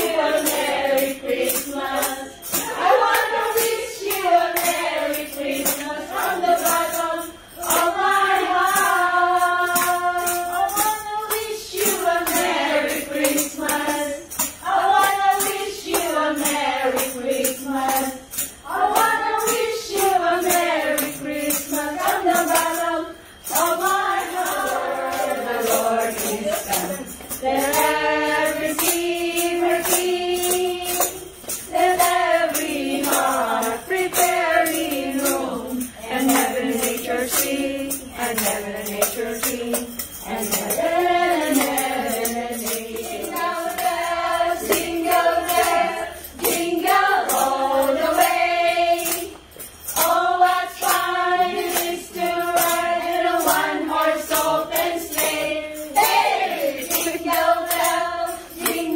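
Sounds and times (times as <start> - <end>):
group singing a carol: 0.0 - 58.9
tambourine jingling: 0.0 - 58.9.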